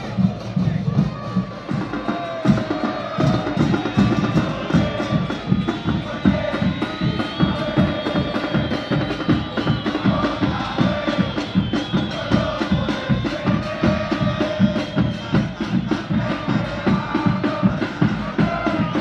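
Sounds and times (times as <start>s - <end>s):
bass drums pounding: 0.0s - 19.0s.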